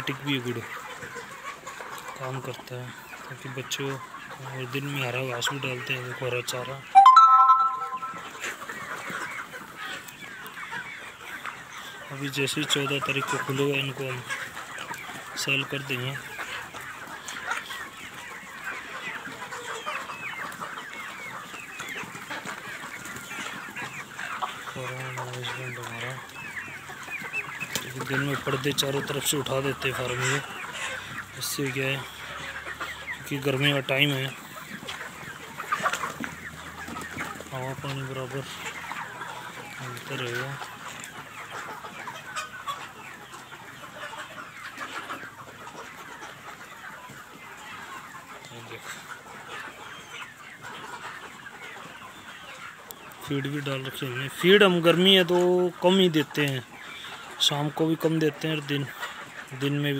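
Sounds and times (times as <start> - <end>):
chickens clucking: 0.0 - 59.9
sharp chicken calls: 0.0 - 59.9.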